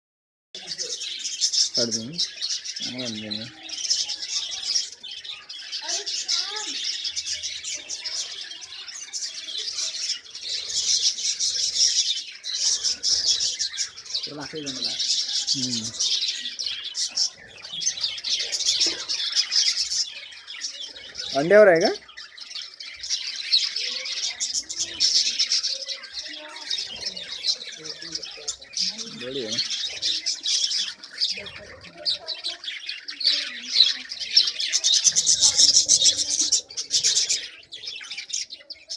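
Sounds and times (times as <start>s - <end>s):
lovebirds chirping: 0.6s - 38.9s.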